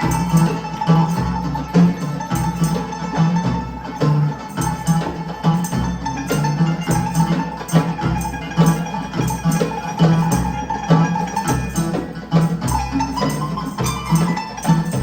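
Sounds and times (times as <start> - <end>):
hand percussion strikes: 0.0 - 15.0
live folk band playing: 0.0 - 15.0.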